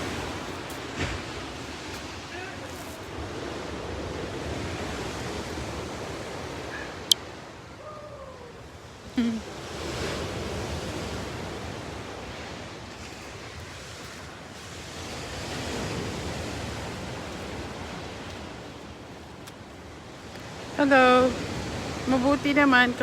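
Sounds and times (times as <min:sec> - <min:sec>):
waves breaking and washing in: 0:00.0 - 0:23.0.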